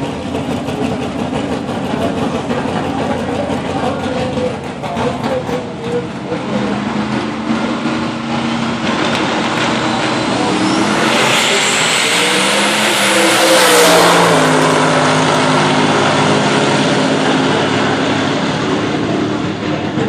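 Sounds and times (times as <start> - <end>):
drag race car engine passing: 0.0 - 20.0.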